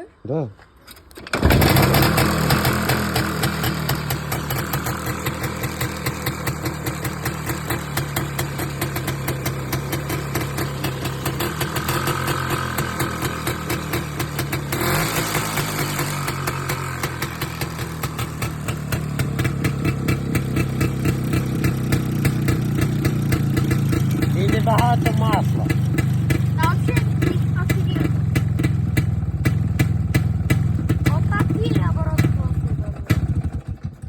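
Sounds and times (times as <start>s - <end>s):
engine running with pulsing beat: 1.7s - 34.0s.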